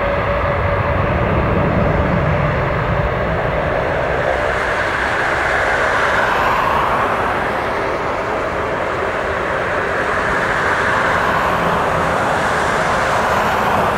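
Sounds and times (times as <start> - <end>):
jet engines roaring: 0.0 - 13.9.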